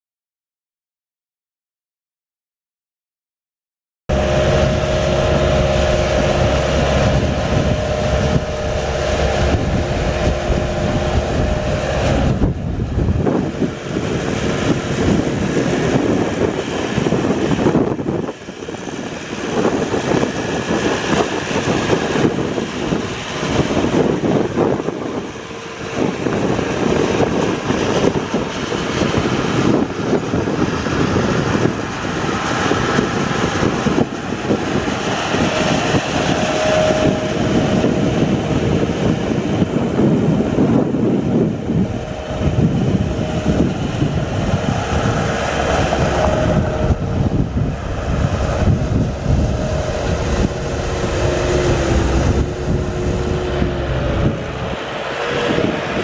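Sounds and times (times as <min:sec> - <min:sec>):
diesel engine running: 0:04.1 - 0:56.0.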